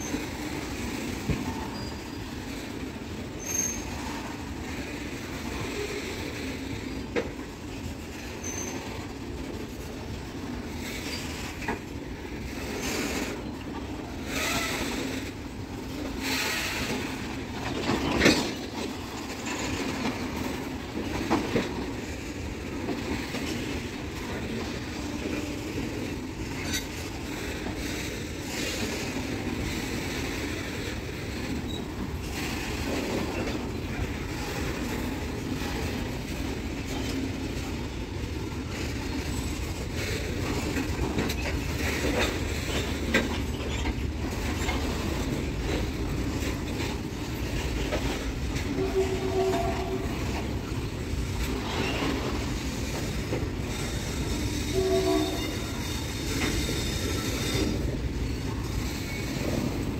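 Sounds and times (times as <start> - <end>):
freight train rolling past: 0.0 - 59.9
wheels clattering over rail joints: 0.0 - 59.9.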